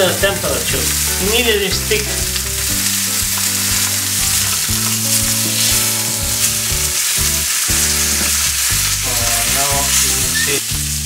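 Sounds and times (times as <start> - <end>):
steaks sizzling in a frying pan: 0.0 - 11.0.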